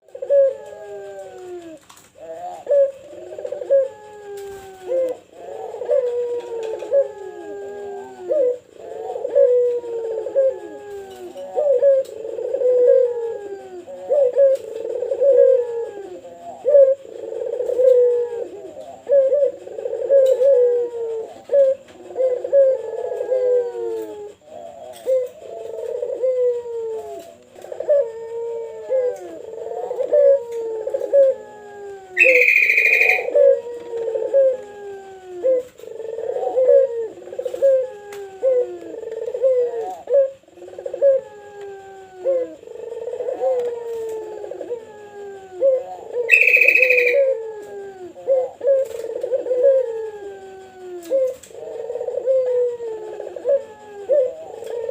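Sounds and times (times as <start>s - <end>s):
doves cooing: 0.0s - 54.9s.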